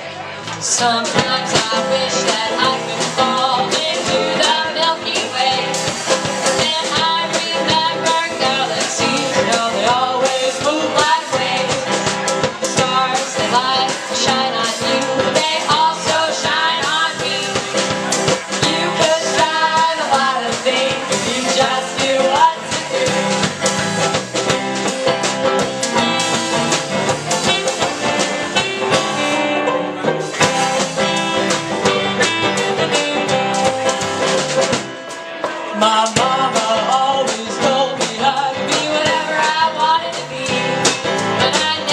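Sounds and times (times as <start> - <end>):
drums: 0.0 - 41.9
folk band playing: 0.0 - 41.9
guitar: 0.0 - 41.9.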